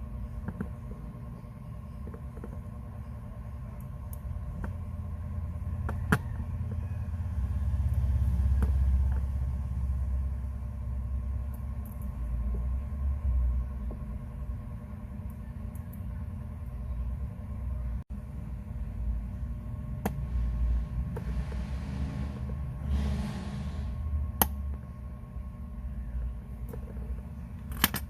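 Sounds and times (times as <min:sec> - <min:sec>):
steady low rumble: 0:00.0 - 0:27.9.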